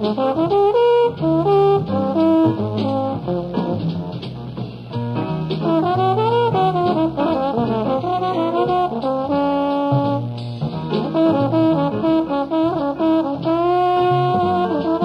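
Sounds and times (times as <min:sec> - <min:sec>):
band accompaniment: 0:00.0 - 0:15.0
jazz trombone solo: 0:00.0 - 0:15.0.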